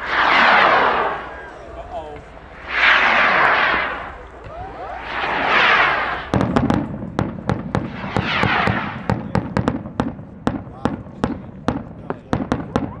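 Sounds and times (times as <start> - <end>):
fireworks bangs: 0.0 - 13.0
fireworks whooshing hummers: 0.0 - 13.0.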